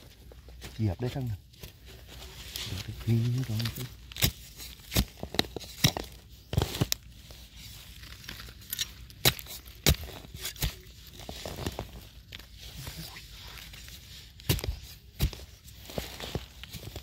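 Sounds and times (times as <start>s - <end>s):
dry leaves crackling and rustling: 1.0s - 4.9s, 6.6s - 17.0s.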